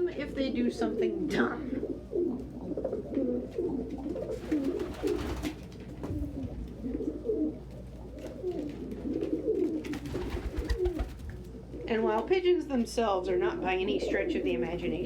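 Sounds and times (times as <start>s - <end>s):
pigeons cooing: 0.0s - 12.3s, 13.5s - 15.0s.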